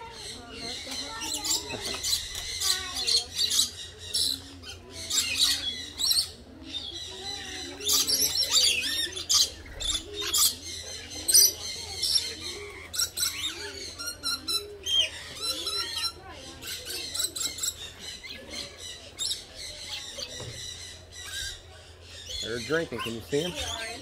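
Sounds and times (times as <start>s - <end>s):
parrots chirping and squawking: 0.0s - 24.0s.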